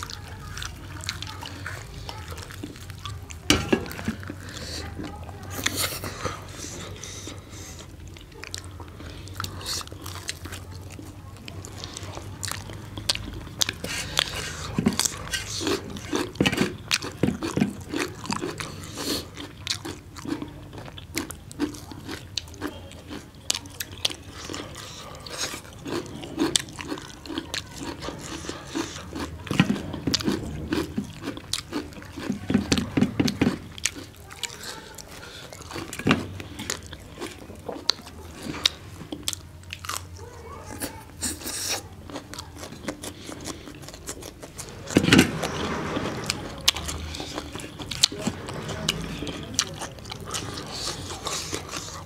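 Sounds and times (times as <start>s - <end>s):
people chewing food: 0.0s - 52.0s.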